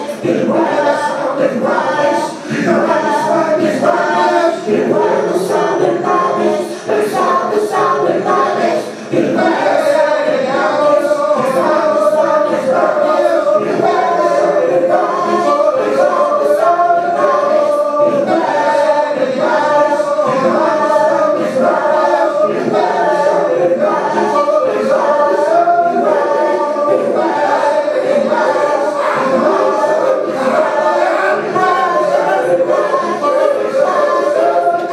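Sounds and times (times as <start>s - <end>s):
choir singing unaccompanied: 0.0s - 34.9s.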